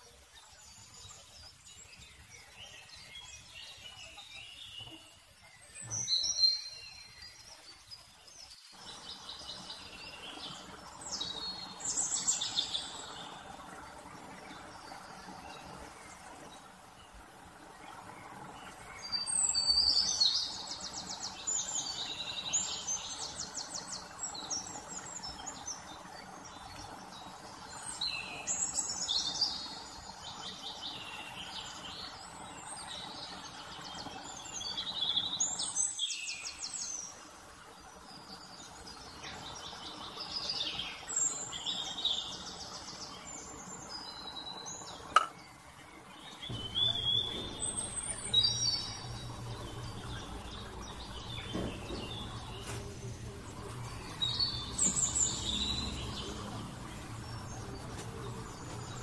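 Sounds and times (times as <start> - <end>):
birds singing trills: 0.0 - 59.0
steady low hiss: 0.0 - 59.0.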